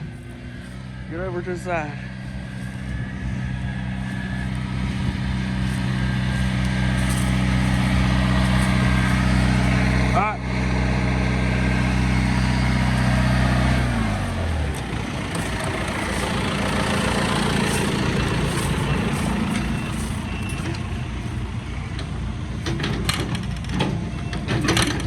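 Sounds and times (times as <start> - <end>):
engine winding down: 0.0 - 25.0
rough machinery rumble: 0.0 - 25.0.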